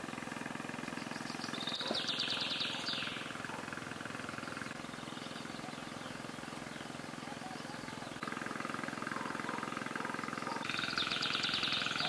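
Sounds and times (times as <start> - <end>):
rapid pulsing drone: 0.0 - 12.0
bird chattering trill: 0.9 - 12.0.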